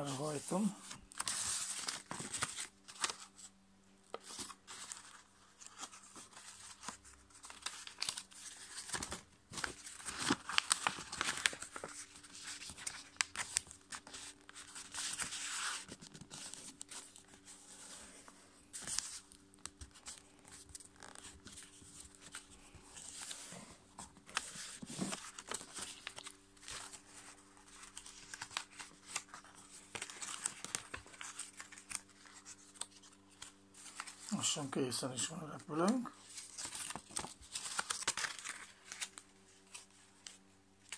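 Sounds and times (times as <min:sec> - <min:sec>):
paper rustling and crinkling: 0:00.0 - 0:40.9.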